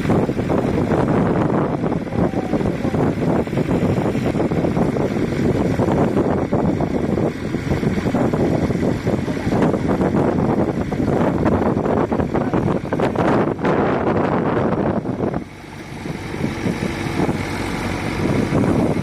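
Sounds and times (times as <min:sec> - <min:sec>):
heavy diesel engine running: 0:00.0 - 0:19.0
wind buffeting microphone: 0:00.0 - 0:19.0.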